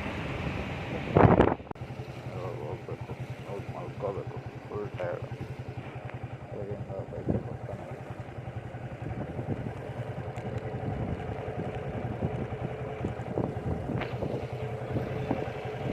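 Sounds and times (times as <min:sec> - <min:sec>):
scooter engine running: 0:00.0 - 0:15.9.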